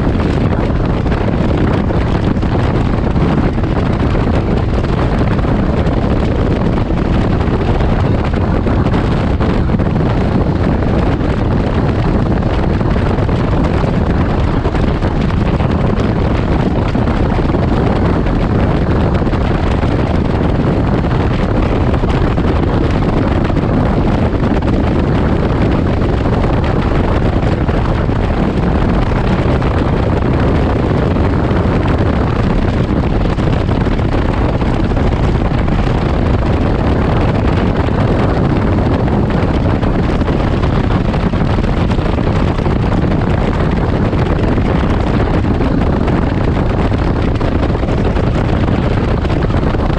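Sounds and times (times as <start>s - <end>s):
wind rush on microphone: 0.0s - 49.9s.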